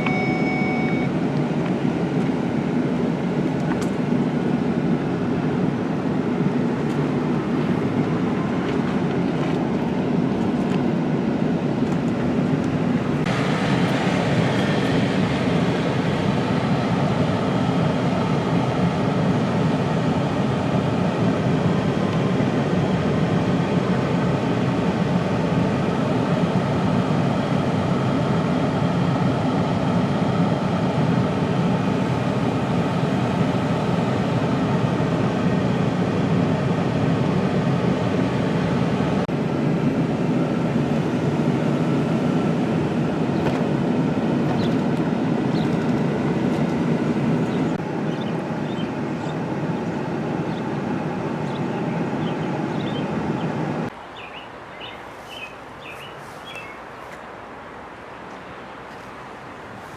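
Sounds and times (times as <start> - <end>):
vehicle interior road rumble: 0.0 - 27.6, 37.8 - 59.9.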